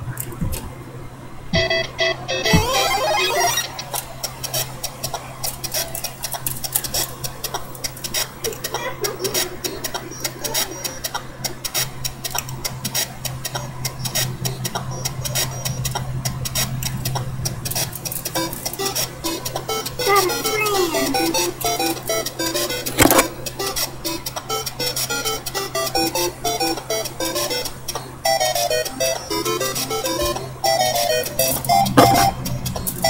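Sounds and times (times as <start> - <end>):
irregular crackling and clicking: 3.5 - 20.5, 21.1 - 33.0.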